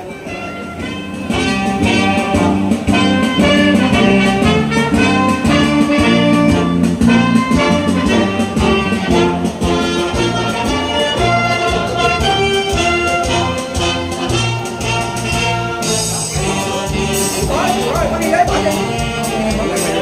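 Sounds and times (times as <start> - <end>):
brass funeral music: 0.0 - 20.0.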